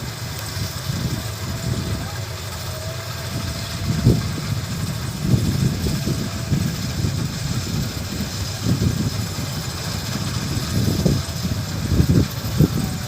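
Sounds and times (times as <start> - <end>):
combine harvester engine rumbling: 0.0 - 13.0.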